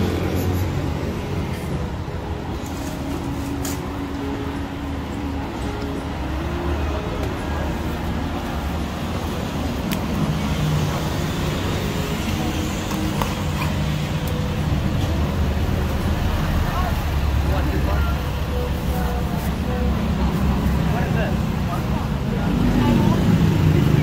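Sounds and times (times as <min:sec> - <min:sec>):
road noise: 0:00.0 - 0:24.0
traffic engine hum: 0:00.0 - 0:24.0
vehicle engine: 0:00.0 - 0:24.0.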